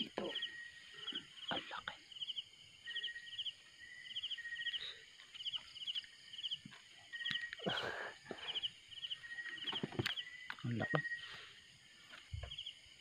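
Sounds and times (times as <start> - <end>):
insect chirps: 0.0 - 13.0.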